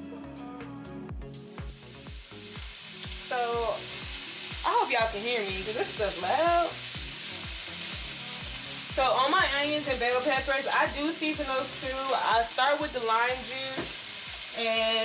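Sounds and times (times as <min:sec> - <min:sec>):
chicken sizzling in a pot: 0:01.4 - 0:15.0.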